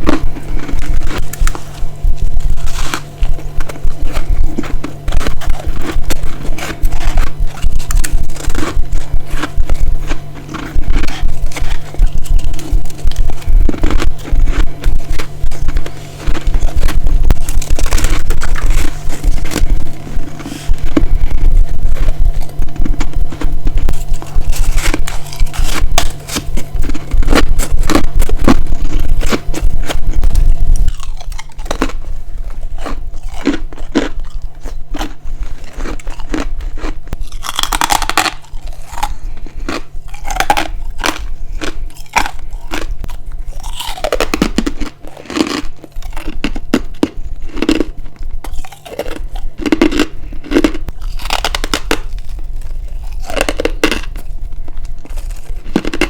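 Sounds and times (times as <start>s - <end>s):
heavy low rumble: 0.0s - 56.0s
ice crunching and chewing: 0.0s - 56.0s.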